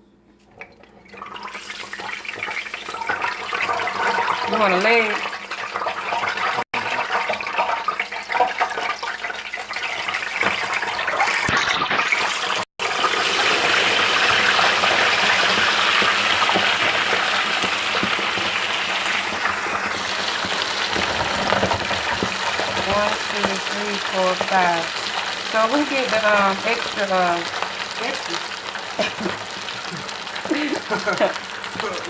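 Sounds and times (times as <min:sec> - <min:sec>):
deep-frying sizzle: 0:01.1 - 0:32.0.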